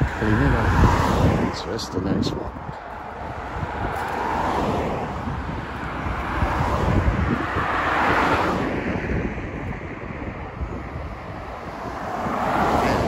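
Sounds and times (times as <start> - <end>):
car passing: 0.0 - 13.0
wind rumbling on microphone: 0.0 - 13.0.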